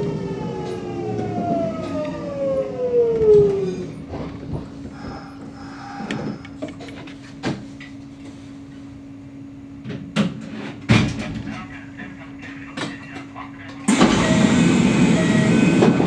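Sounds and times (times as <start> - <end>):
electric train equipment hum: 0.0 - 10.9, 13.8 - 16.0.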